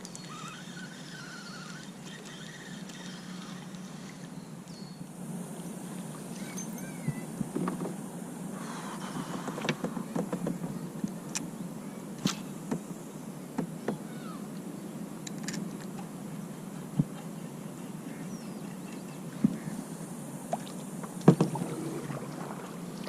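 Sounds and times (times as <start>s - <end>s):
moving water: 0.0s - 11.4s, 15.3s - 23.0s.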